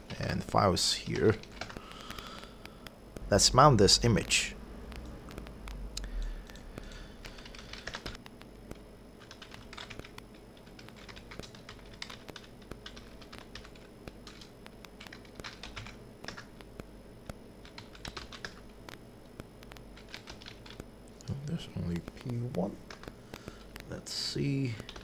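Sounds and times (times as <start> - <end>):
computer keyboard typing: 1.1 - 2.9, 3.6 - 16.8, 17.6 - 18.8, 19.6 - 25.0.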